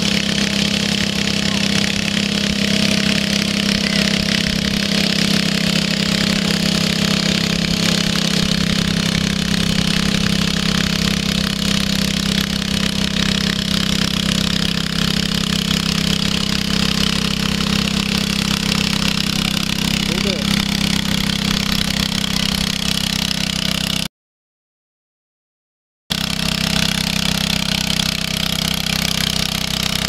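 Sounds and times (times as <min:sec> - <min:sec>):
tractor engine running under load: 0:00.0 - 0:24.1, 0:26.1 - 0:30.0.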